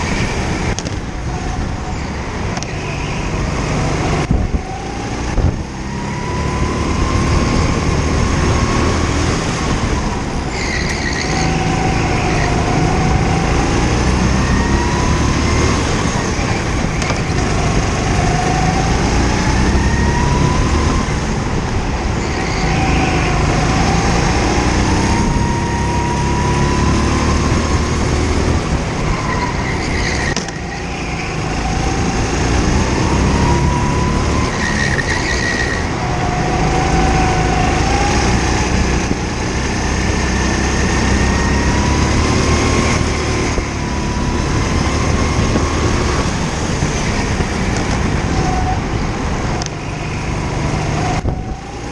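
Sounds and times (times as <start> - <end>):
go-kart engine revving: 0.0 - 51.9.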